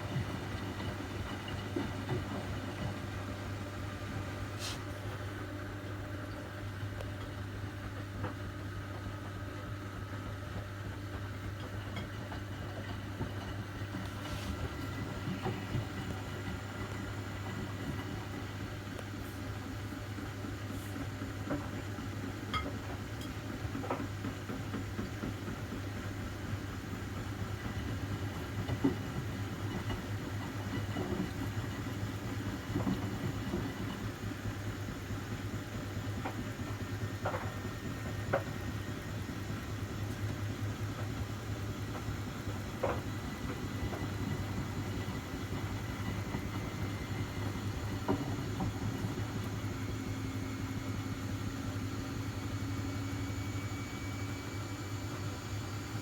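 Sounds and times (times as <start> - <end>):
washing machines humming: 0.0 - 56.0.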